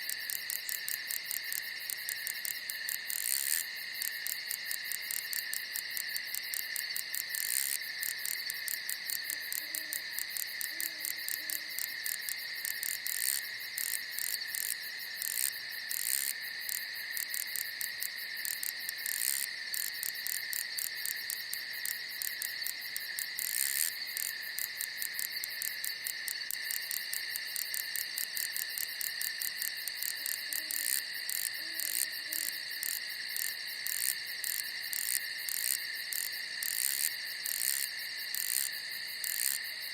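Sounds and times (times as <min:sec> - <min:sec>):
crickets trilling and chirping: 0:00.0 - 0:39.9.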